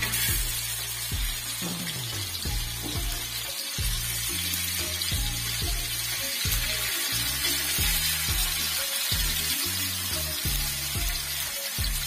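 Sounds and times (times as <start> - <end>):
background music with beat: 0.0 - 12.0
fish sizzling in oil: 0.0 - 12.0.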